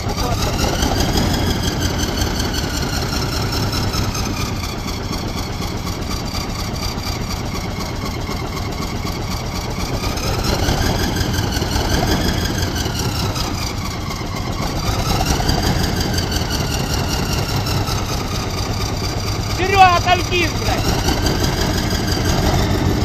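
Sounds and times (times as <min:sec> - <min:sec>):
tank diesel engine running: 0:00.0 - 0:23.0.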